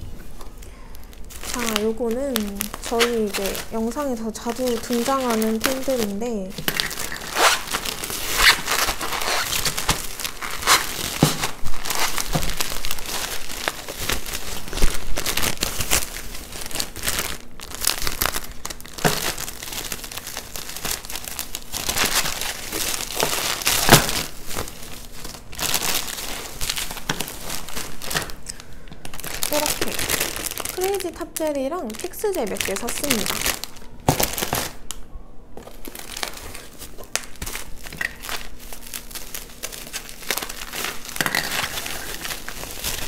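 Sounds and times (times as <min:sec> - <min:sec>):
bubble wrap and plastic crinkling: 0:00.0 - 0:43.0.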